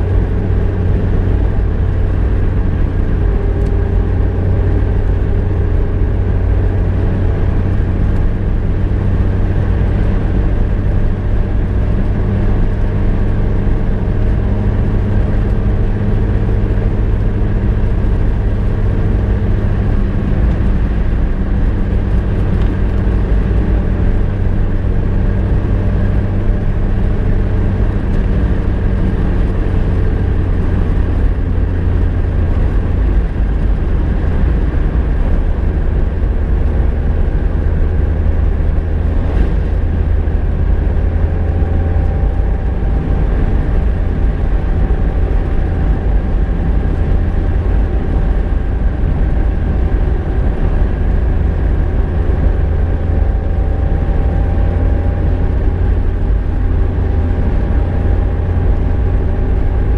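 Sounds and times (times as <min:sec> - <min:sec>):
car engine droning: 0:00.0 - 0:59.9
road noise: 0:00.0 - 0:59.9.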